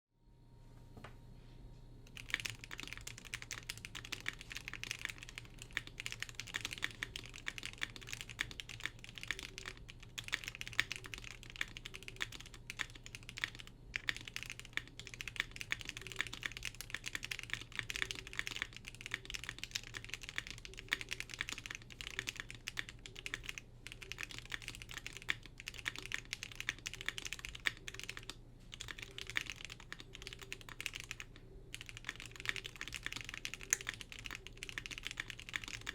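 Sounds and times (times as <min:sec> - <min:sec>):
typing on mechanical keyboard: 0:02.1 - 0:35.9.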